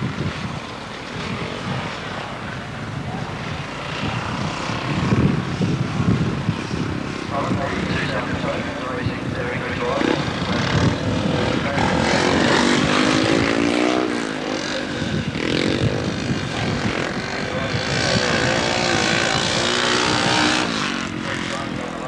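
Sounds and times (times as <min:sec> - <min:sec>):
racing motorcycles passing: 0:00.0 - 0:22.0.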